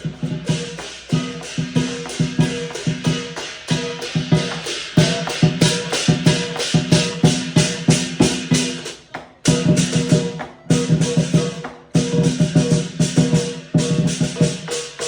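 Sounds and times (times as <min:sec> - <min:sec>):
upbeat music with percussive beat: 0:00.0 - 0:15.0.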